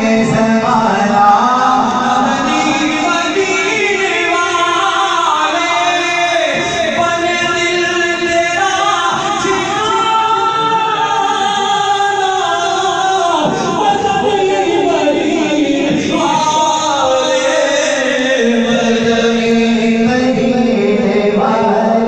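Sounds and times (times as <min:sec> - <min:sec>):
man singing long held notes: 0:00.0 - 0:22.0.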